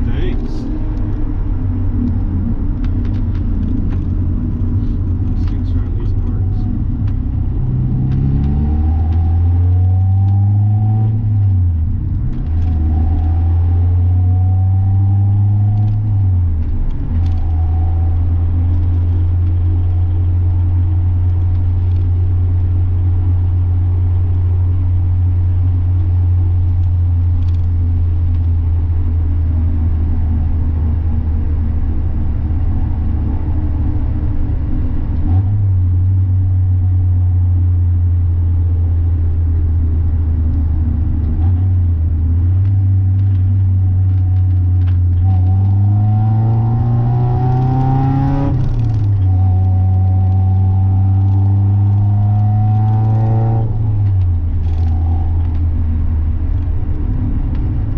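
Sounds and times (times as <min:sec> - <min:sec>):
car engine and exhaust accelerating: 0:00.0 - 0:57.9.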